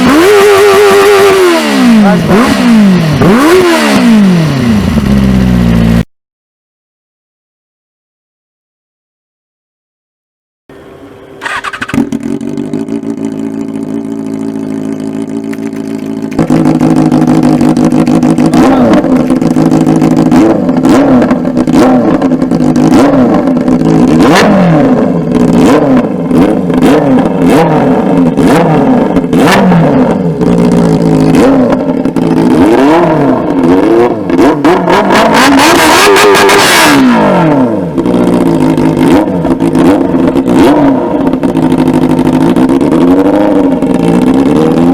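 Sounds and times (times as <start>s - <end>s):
motorcycle engine revving: 0.0s - 6.1s, 10.7s - 44.9s.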